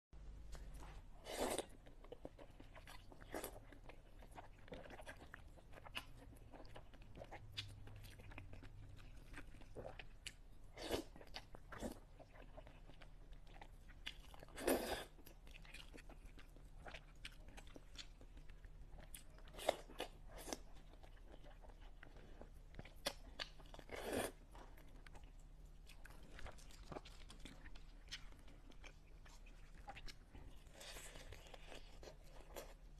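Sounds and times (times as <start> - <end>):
wet chewing and mouth clicks: 1.5 - 32.9.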